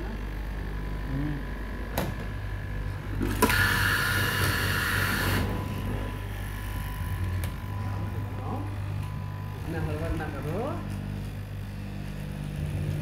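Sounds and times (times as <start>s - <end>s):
blade buzzing through fabric: 0.0s - 13.0s
cutting machine motor hum: 0.0s - 13.0s.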